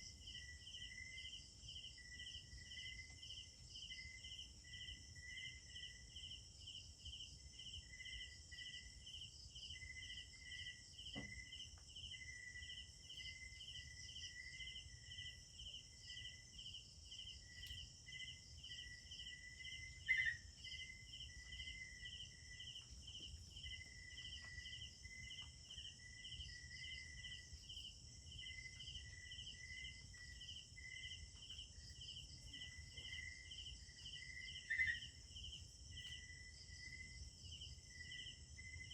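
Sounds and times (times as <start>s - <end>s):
crickets and insects chirping: 0.0s - 38.9s
lower intermittent chirping: 0.0s - 38.9s.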